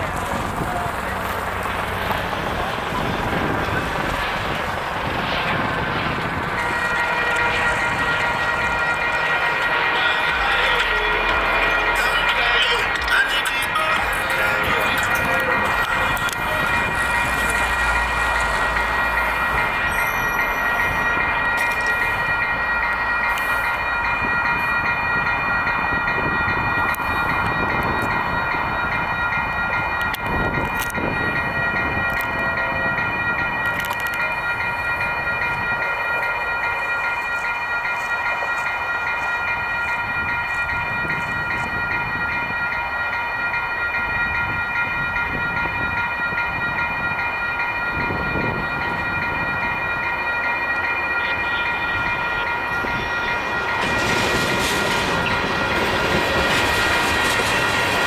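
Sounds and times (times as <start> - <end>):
crossing warning bells ringing: 0.0 - 58.0
freight train rumbling and clattering: 0.0 - 58.0.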